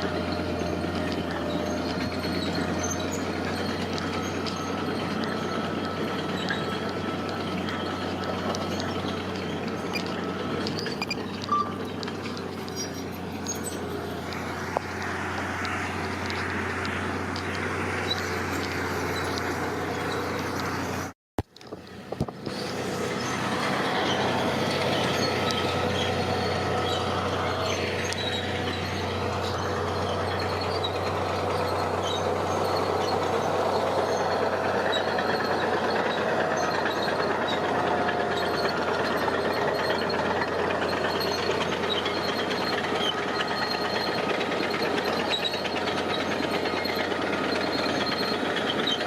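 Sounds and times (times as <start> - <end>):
diesel construction machinery running: 0.0 - 49.0.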